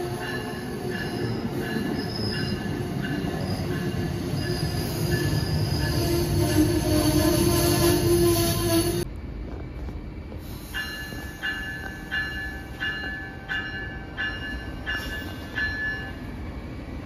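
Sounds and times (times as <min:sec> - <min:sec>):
train wheel squeal: 0:00.0 - 0:09.1, 0:10.4 - 0:16.3
train rolling past: 0:00.0 - 0:17.0.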